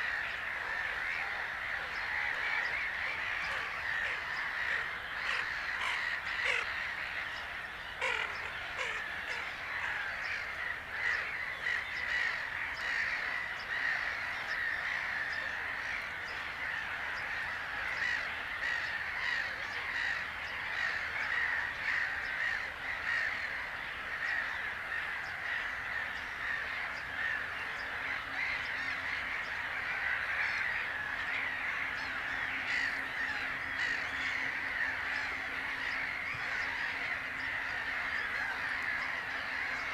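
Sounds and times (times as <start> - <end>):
flock of birds calling harshly: 0.0 - 39.9.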